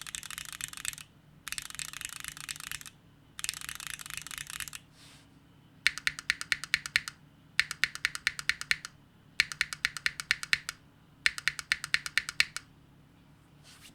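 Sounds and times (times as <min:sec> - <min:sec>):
keyboard typing: 0:00.0 - 0:04.8, 0:05.9 - 0:12.7.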